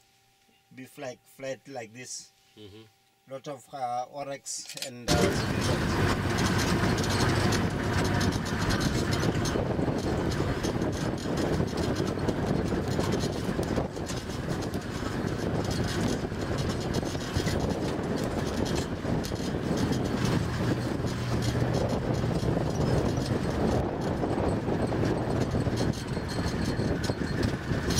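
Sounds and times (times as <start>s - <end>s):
bodywork rattles and knocks: 5.1s - 27.9s
vehicle engine drone: 5.1s - 27.9s.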